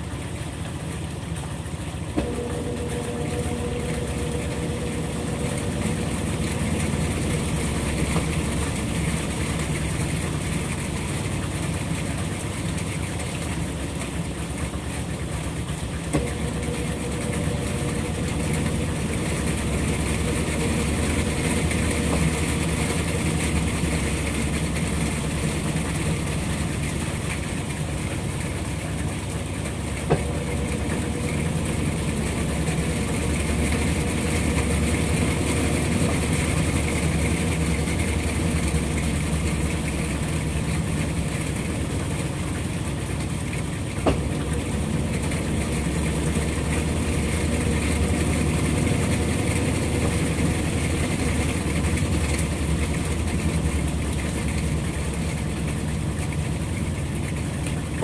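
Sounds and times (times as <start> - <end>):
washing machine motor hum: 0.0 - 58.0.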